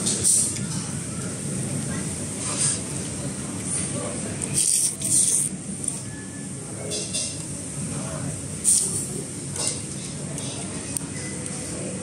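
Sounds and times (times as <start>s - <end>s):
eatery room noise: 0.0s - 12.0s.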